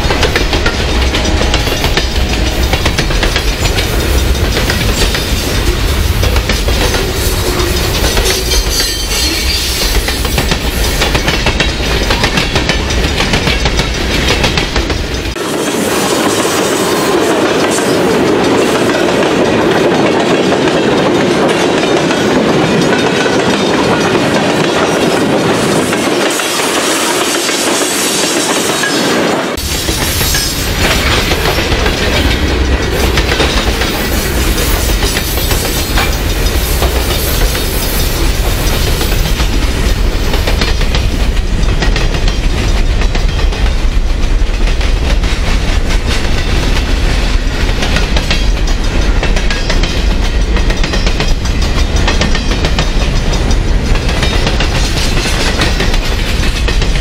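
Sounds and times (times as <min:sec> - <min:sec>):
steel wheels clicking over rail joints: 0:00.0 - 0:57.0
train rolling rumble: 0:00.0 - 0:57.0.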